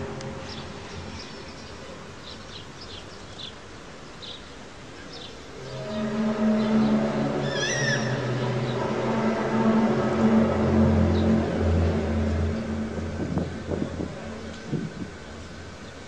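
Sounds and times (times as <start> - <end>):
low droning hum: 0.0 - 2.8, 5.5 - 16.0.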